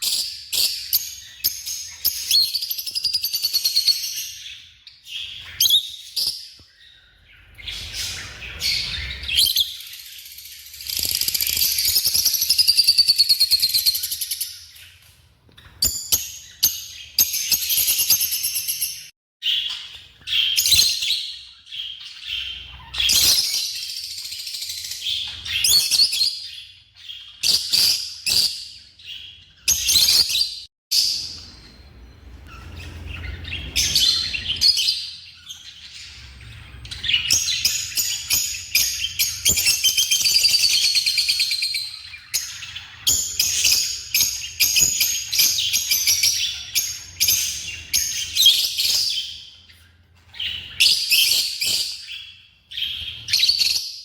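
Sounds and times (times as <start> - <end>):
birds chirping and chattering: 0.0 - 54.0.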